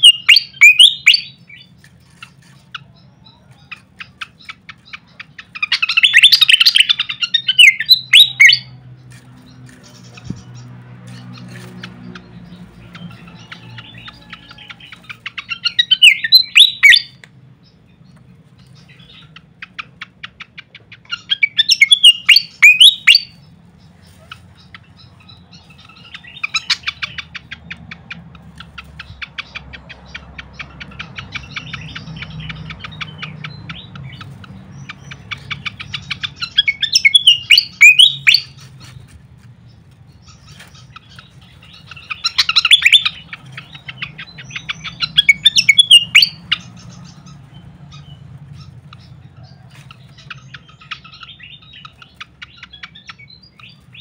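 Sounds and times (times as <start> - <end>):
bird fast ticking notes: 0.0 - 3.0, 3.7 - 17.8, 18.6 - 23.6, 24.6 - 39.0, 39.6 - 49.3
bird singing squeaky notes: 0.0 - 17.2, 21.0 - 27.6, 28.4 - 54.0.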